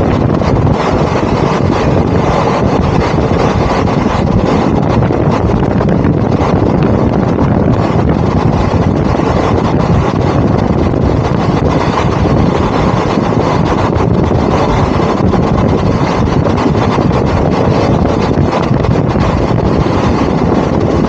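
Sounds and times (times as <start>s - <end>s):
moving train running: 0.0s - 21.0s
wind buffeting microphone: 0.0s - 21.0s.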